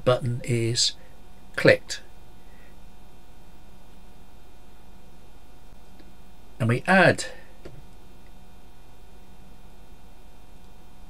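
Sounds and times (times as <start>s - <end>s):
faint electrical hum: 0.0s - 11.0s
low hiss: 0.0s - 11.0s.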